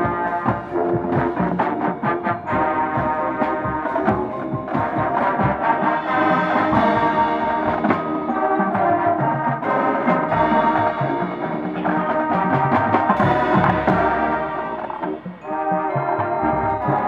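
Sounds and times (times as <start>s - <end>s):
marching band playing: 0.0s - 17.0s
percussion strikes: 0.0s - 17.0s.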